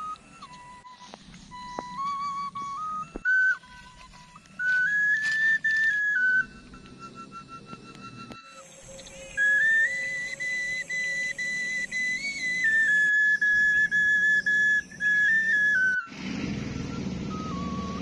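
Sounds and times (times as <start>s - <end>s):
whistled melody music: 0.0s - 18.0s.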